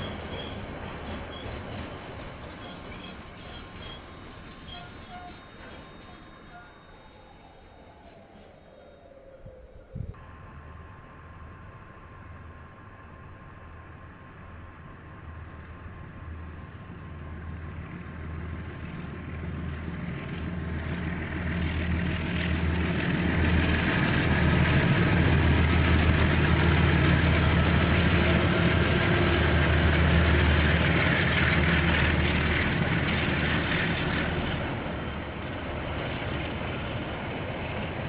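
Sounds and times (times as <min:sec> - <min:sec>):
diesel locomotive engine: 0:00.0 - 0:38.0.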